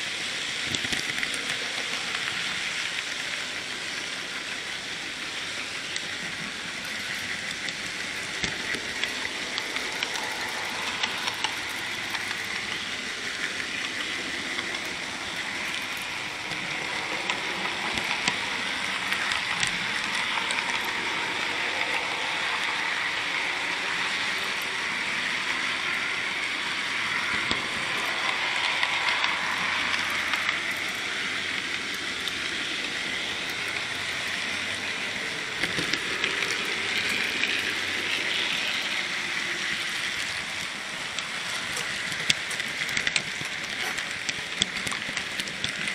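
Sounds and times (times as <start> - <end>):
model train motor whirring: 0.0 - 45.9.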